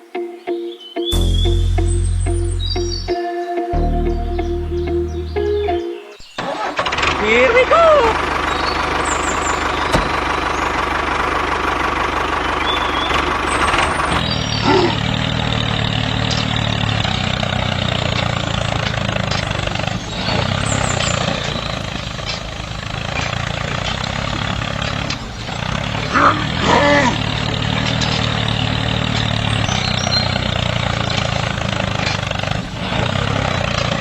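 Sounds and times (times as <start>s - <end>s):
shredder machine running: 6.7s - 34.0s.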